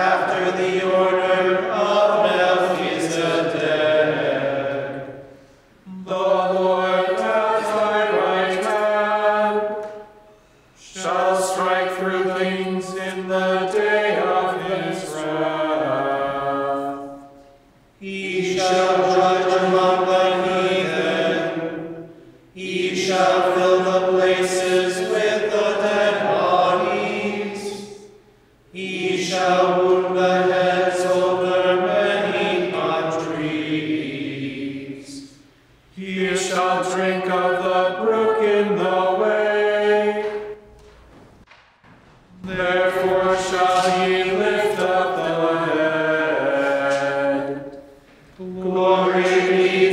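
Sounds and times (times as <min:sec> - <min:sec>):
chant sung on one melody line: 0:00.0 - 0:10.2, 0:10.8 - 0:40.7, 0:42.3 - 0:49.9.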